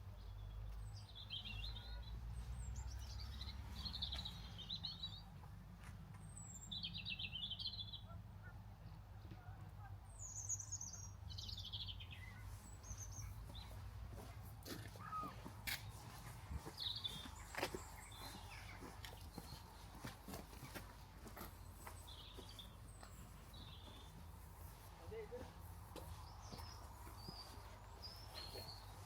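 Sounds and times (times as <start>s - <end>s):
small songbirds chirping: 0.0s - 5.4s, 6.2s - 29.0s.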